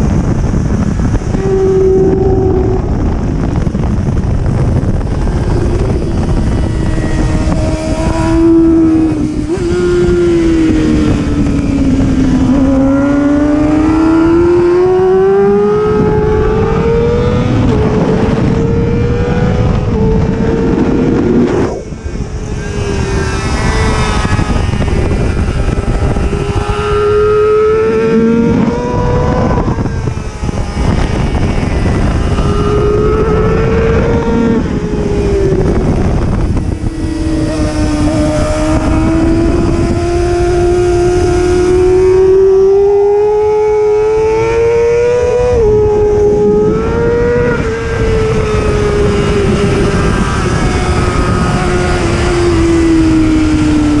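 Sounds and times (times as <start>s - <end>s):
rush of wind: 0.0s - 54.0s
superbike engine revving: 0.0s - 54.0s.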